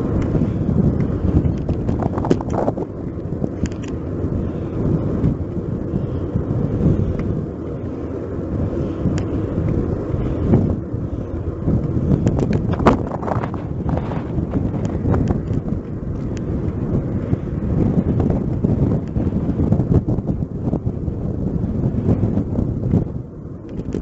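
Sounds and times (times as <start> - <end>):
bicycle clicks and rattles: 0.0 - 24.0
road rumble: 0.0 - 24.0
wind rushing over microphone: 0.0 - 24.0.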